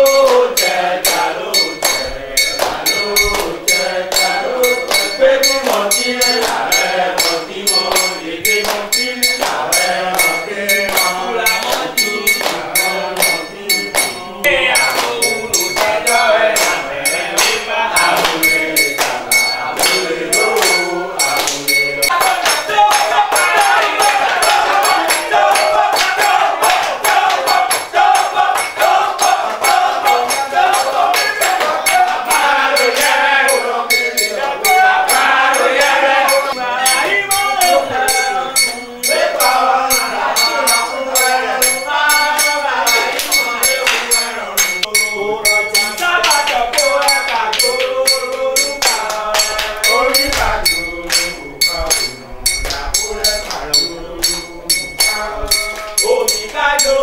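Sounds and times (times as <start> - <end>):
metal percussion strikes: 0.0 - 57.0
voices chanting or talking: 0.0 - 57.0.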